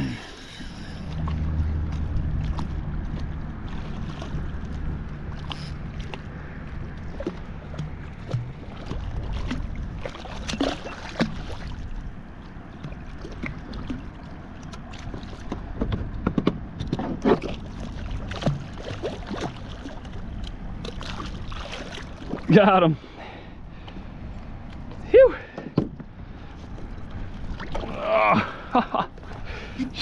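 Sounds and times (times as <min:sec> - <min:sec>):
water sloshing against kayak: 0:00.0 - 0:30.0
water splashes: 0:00.0 - 0:30.0.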